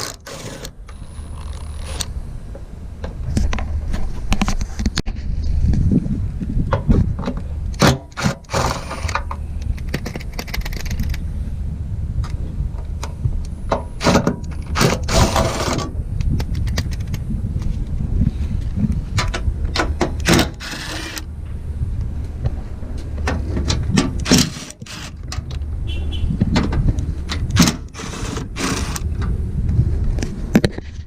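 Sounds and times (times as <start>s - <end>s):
steady low rumble: 0.3s - 31.0s.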